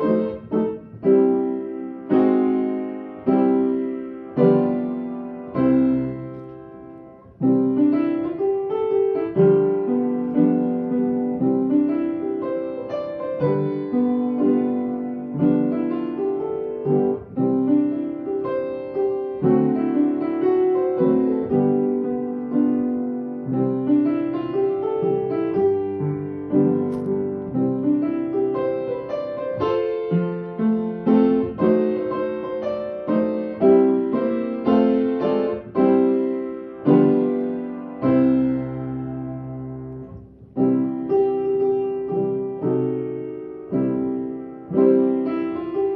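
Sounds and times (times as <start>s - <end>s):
piano playing worship music: 0.0s - 45.9s.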